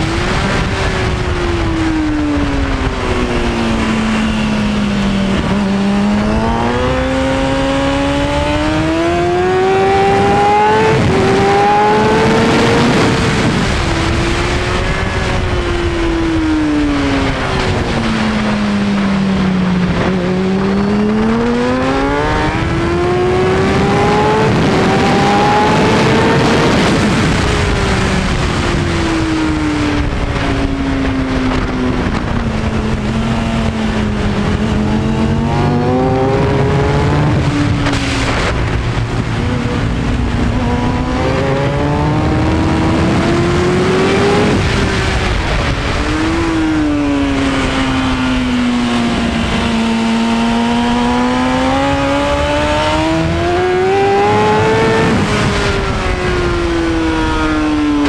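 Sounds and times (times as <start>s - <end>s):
motorcycle engine shifting gears: 0.0s - 58.0s
wind noise: 0.0s - 58.0s.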